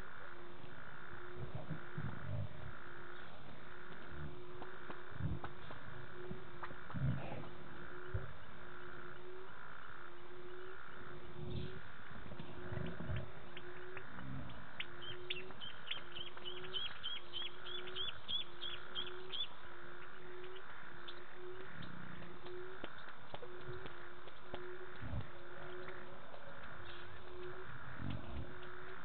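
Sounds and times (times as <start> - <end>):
low animal call: 0.0 - 29.0.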